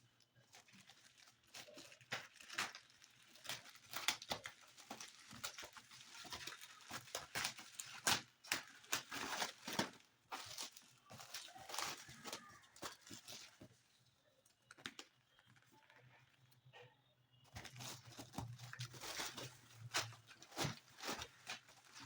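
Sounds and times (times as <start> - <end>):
packaging rustling and tearing: 0.2 - 14.0, 17.5 - 22.0.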